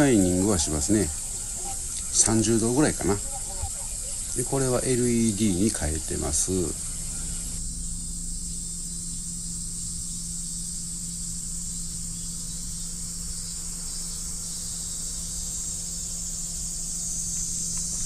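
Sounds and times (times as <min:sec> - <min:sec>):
high-pitched insect chorus: 0:00.0 - 0:18.0
low hum: 0:00.0 - 0:18.0.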